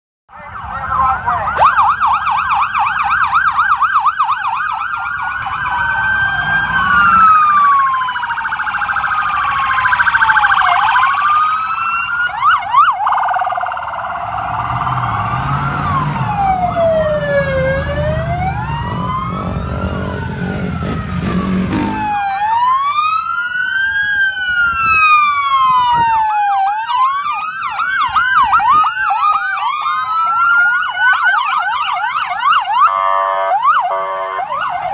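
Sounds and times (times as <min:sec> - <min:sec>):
police sirens wailing and yelping: 0:00.3 - 0:34.9.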